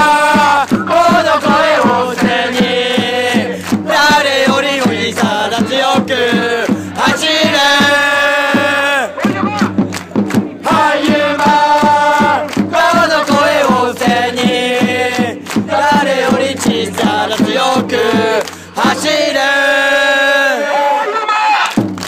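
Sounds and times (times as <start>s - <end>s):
crowd chanting in unison: 0.0s - 9.6s, 10.4s - 21.8s
steady beat: 0.0s - 20.0s.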